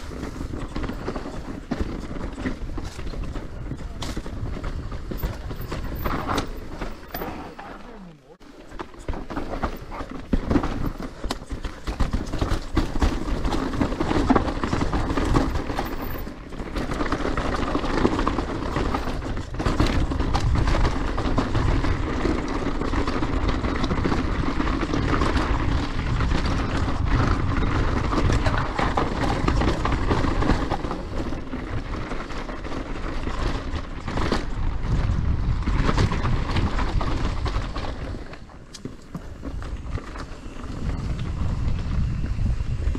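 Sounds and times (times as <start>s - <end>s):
wind buffeting the microphone: 0.0s - 7.3s, 9.2s - 42.9s
bike rattling and clicking: 0.0s - 42.9s
tyres crunching over dirt: 0.0s - 42.9s.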